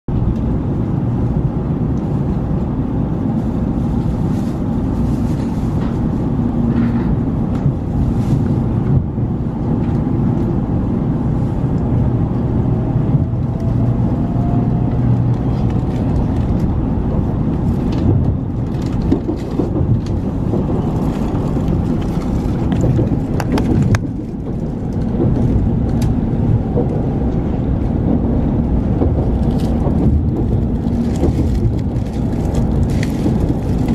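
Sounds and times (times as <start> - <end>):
train running rumble: 0.1 - 33.9.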